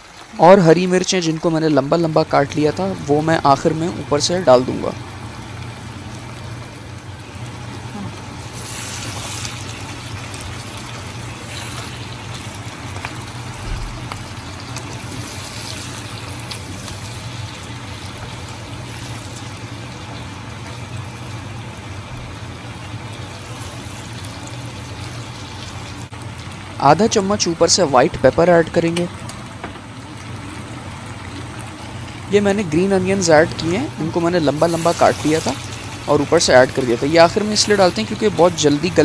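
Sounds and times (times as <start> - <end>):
vegetables sizzling in a pan: 0.0 - 39.0.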